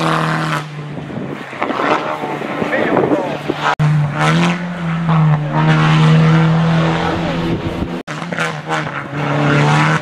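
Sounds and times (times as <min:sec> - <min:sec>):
race car engine at high revs: 0:00.0 - 0:10.0.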